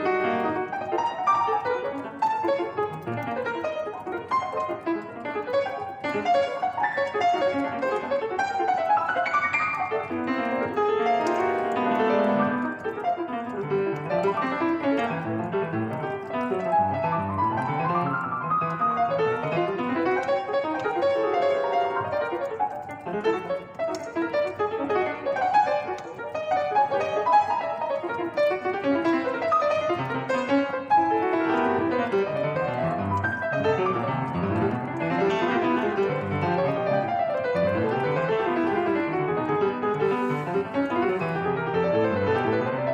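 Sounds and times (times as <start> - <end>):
solo piano fast notes: 0.0 - 42.9.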